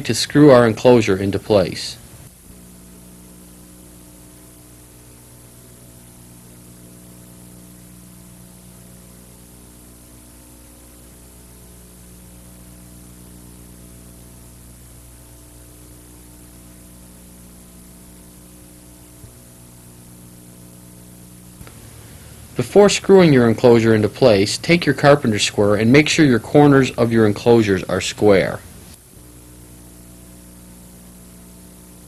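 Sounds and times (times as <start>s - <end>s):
constant hiss: 0.0s - 32.0s
electrical hum: 0.0s - 32.0s.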